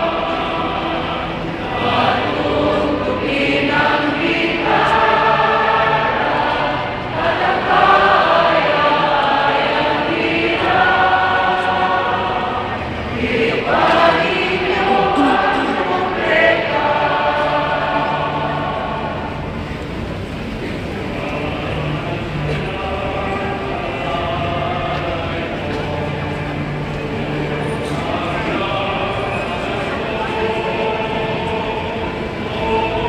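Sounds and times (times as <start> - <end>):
choir singing with echo: 0.0 - 33.0.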